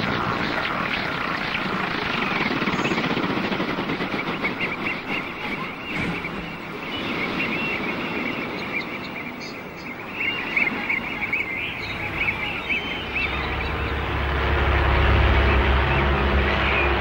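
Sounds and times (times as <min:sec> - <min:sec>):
birds chirping: 0:00.0 - 0:17.0
steady rushing noise: 0:00.0 - 0:17.0.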